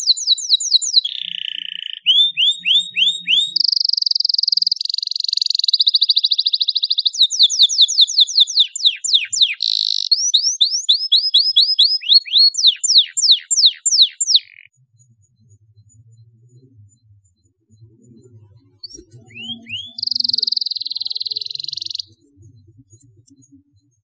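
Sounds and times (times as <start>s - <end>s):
canary singing trills: 0.0s - 15.4s, 18.0s - 24.0s.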